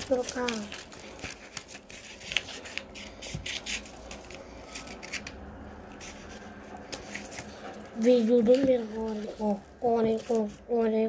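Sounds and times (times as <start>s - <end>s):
crisp paper handling: 0.0s - 10.9s.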